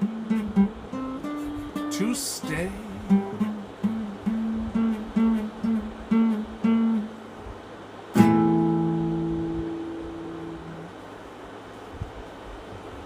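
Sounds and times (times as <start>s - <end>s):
slow blues guitar: 0.0s - 11.0s.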